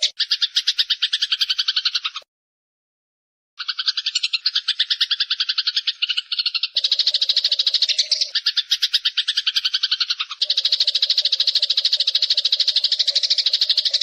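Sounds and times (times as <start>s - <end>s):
sparrows chirping: 0.0s - 2.2s, 3.6s - 14.0s.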